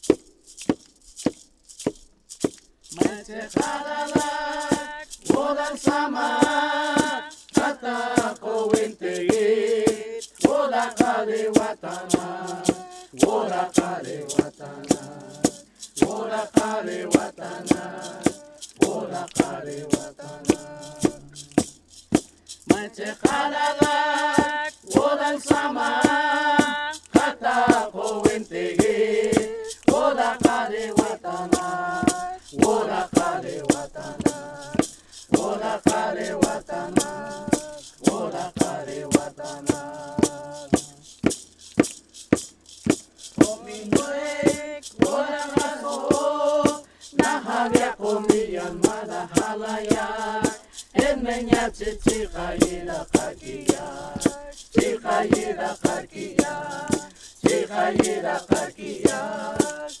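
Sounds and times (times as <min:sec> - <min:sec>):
hand rattle shaking: 0:00.0 - 1:00.0
group singing: 0:02.9 - 0:21.7, 0:22.6 - 0:41.1, 0:43.3 - 1:00.0.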